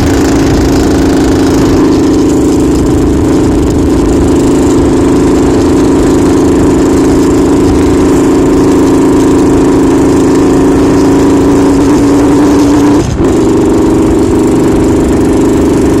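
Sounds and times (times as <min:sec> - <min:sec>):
motorcycle engine running roughly: 0:00.0 - 0:16.0.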